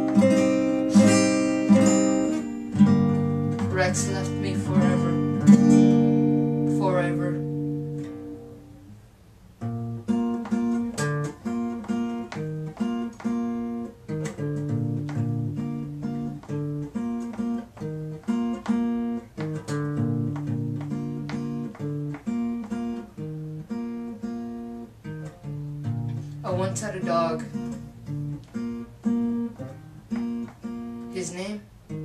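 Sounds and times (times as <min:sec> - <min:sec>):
acoustic guitar plucked chords: 0:00.0 - 0:32.0.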